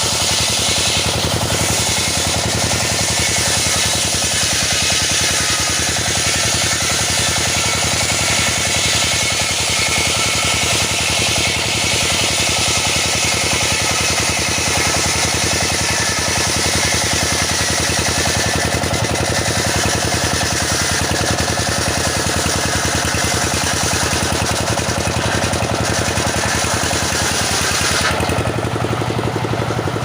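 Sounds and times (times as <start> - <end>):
engine-driven saw cutting wood: 0.0 - 30.0.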